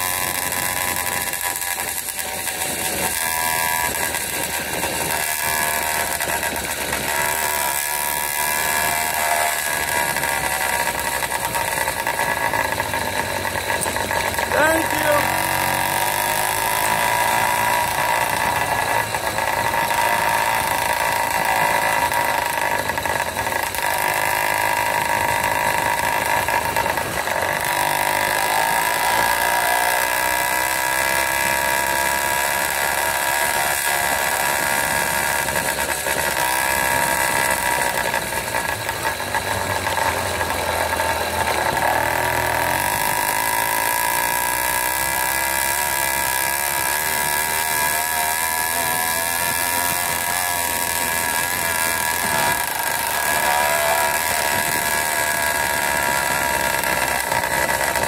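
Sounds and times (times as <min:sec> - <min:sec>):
two-stroke bicycle engine running: 0:00.0 - 0:58.0.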